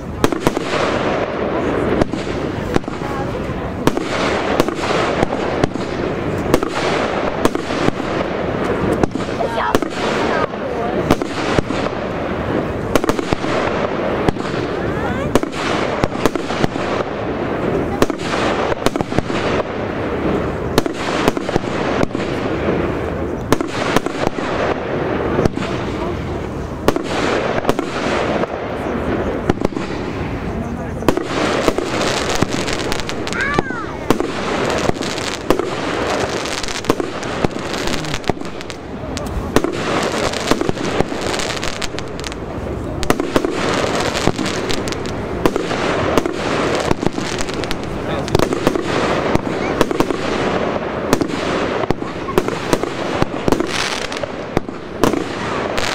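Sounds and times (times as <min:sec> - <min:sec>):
firework launches and bursts: 0:00.0 - 0:55.9
sharp firework bangs: 0:00.0 - 0:55.9.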